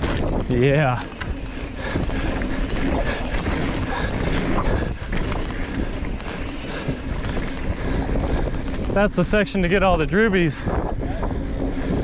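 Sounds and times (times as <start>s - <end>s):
bike knocks and rattles: 0.0s - 12.0s
bike tyres on dirt: 0.0s - 12.0s
wind rushing over microphone: 0.0s - 12.0s.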